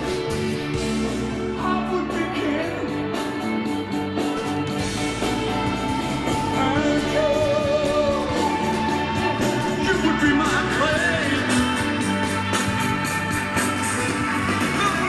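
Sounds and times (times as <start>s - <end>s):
person singing: 0.9s - 3.7s, 5.2s - 15.0s.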